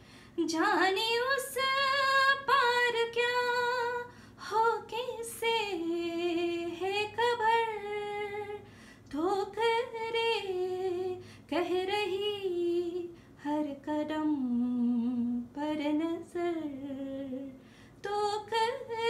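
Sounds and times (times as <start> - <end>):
woman singing without words: 0.4 - 19.0.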